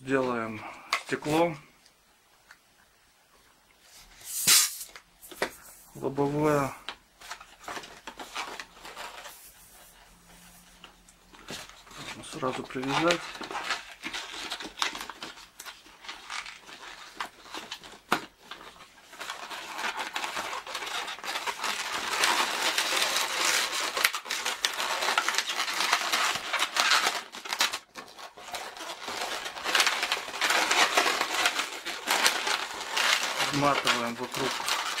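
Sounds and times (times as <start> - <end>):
balloons being twisted and rubbed: 3.8 - 6.8, 7.8 - 35.0.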